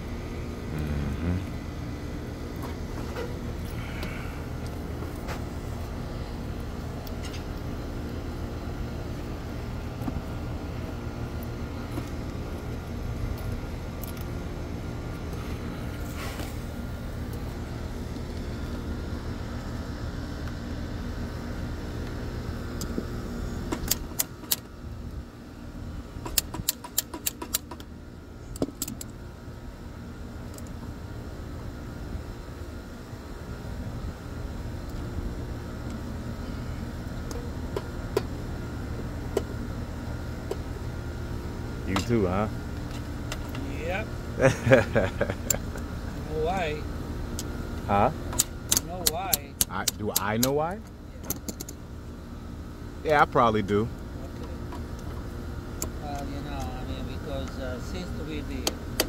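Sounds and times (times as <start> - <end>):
air conditioning hum: 0.0 - 59.0.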